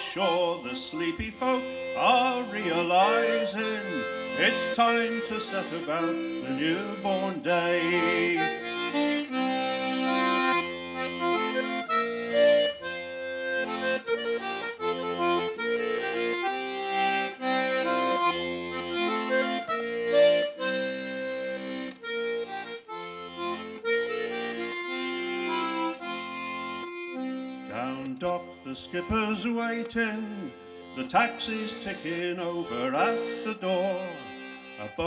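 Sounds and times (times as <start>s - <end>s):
button accordion folk melody: 0.0s - 35.0s.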